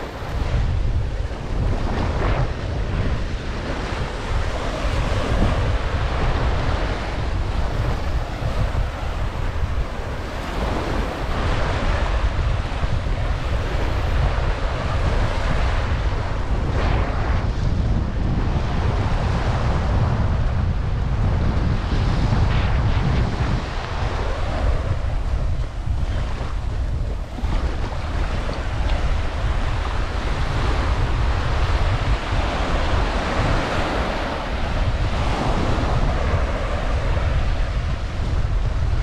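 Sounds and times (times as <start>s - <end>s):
surf washing onto beach: 0.0s - 39.0s
wind buffeting microphone: 0.0s - 39.0s.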